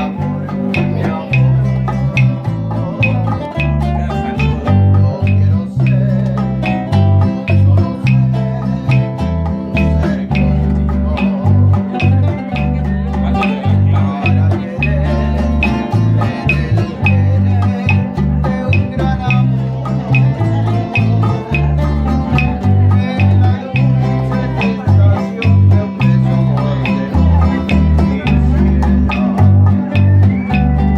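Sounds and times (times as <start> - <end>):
bass line: 0.0 - 30.9
guitars strumming and picking: 0.0 - 30.9.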